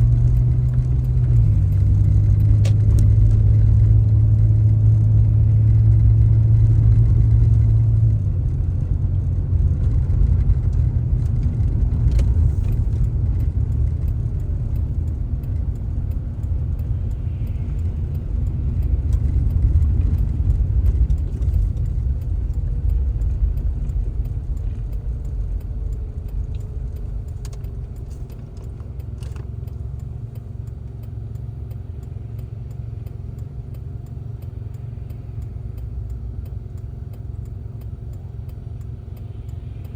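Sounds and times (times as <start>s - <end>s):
car engine and road rumble: 0.0s - 39.9s
low hum: 0.0s - 39.9s.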